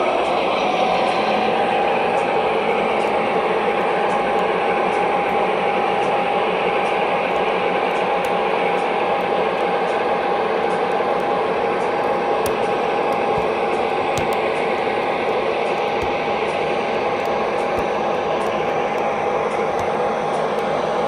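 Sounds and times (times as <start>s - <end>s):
model locomotive hum and whine: 0.0s - 21.0s.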